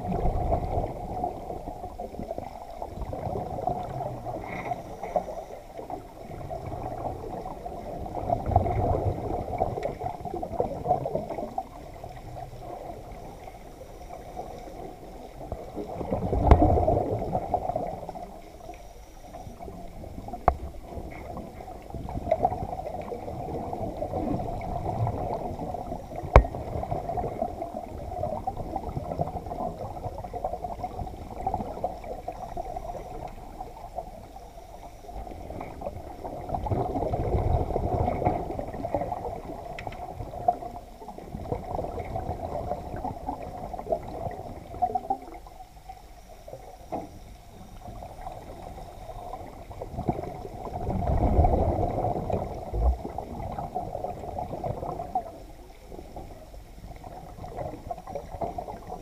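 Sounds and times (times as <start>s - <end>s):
low rumbling water swells: 0.0s - 59.0s
muffled underwater wash: 0.0s - 59.0s.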